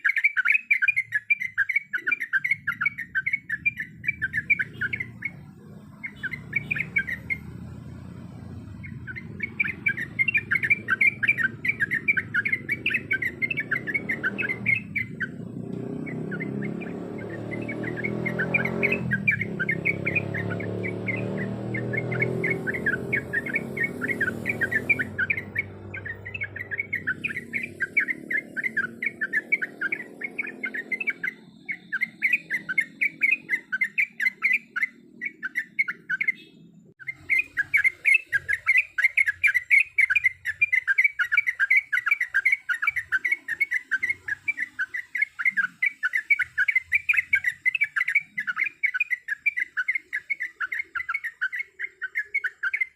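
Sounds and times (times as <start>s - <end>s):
bird singing chattering notes: 0.0s - 52.9s.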